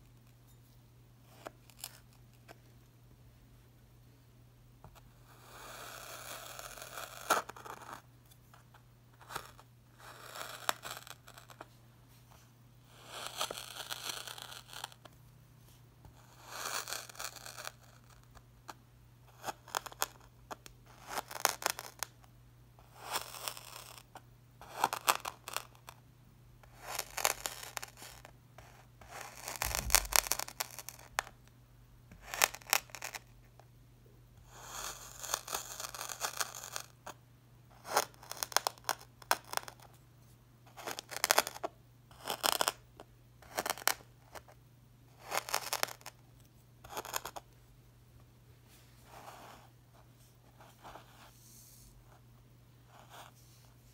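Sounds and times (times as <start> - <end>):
faint steady hum: 0.0 - 53.9.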